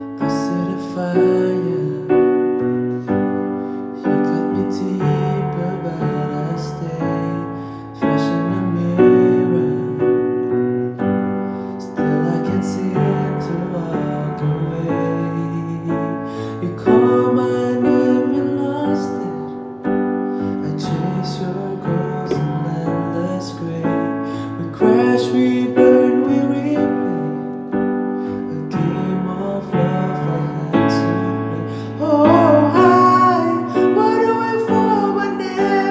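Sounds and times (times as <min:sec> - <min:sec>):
piano playing slow chords: 0:00.0 - 0:35.9.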